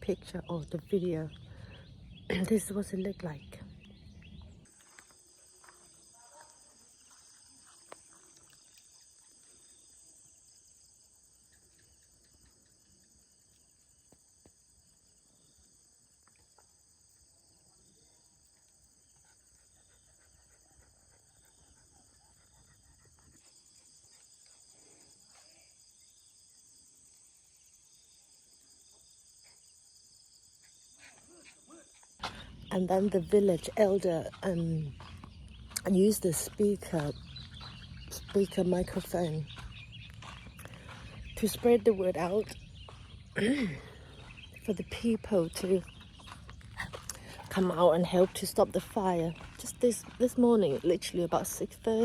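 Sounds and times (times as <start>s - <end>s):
crickets trilling: 0.0s - 20.2s, 23.3s - 52.0s.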